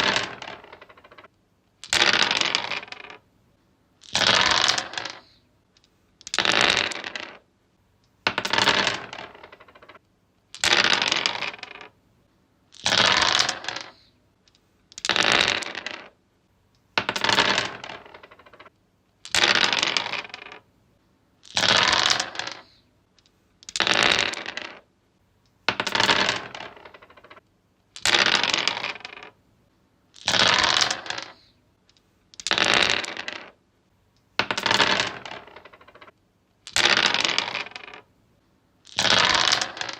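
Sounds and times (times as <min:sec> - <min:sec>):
dice rolling on wood: 0:00.0 - 0:03.3, 0:04.0 - 0:07.5, 0:08.2 - 0:12.0, 0:12.7 - 0:16.2, 0:16.8 - 0:20.7, 0:21.4 - 0:24.9, 0:25.5 - 0:29.4, 0:30.1 - 0:33.6, 0:34.2 - 0:38.1, 0:38.8 - 0:39.9.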